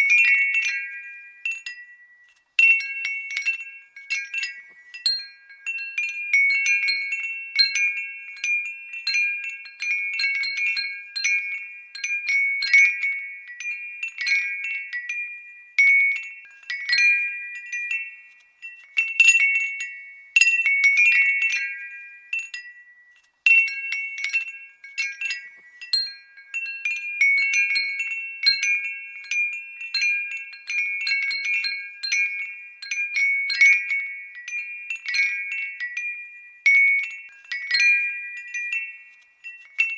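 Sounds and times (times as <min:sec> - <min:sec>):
glass wind bell clinking: 0:00.0 - 0:39.9.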